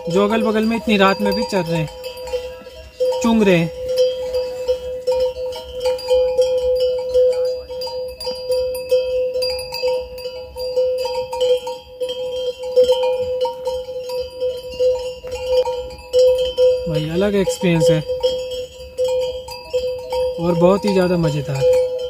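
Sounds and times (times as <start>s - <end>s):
horse bells ringing and jangling: 0.0s - 22.0s.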